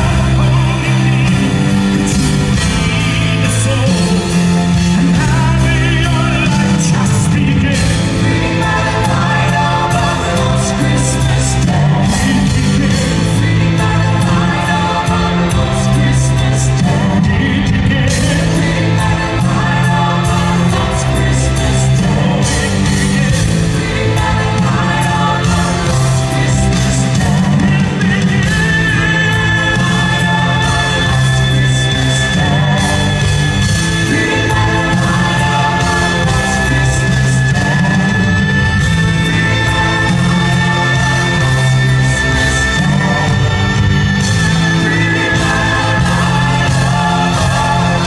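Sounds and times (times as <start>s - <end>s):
man singing: 0.0s - 48.0s
symphonic rock band: 0.0s - 48.0s.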